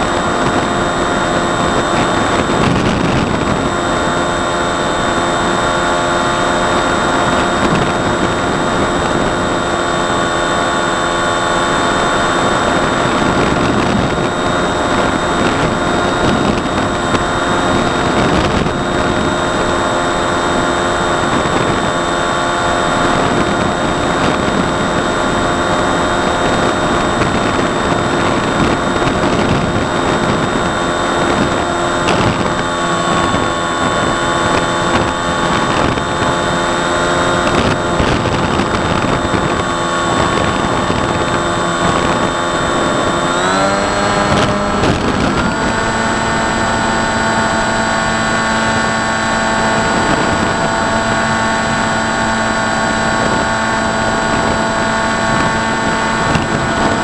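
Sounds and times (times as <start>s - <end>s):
model plane motor whine: 0.0s - 57.0s
rushing air: 0.0s - 57.0s.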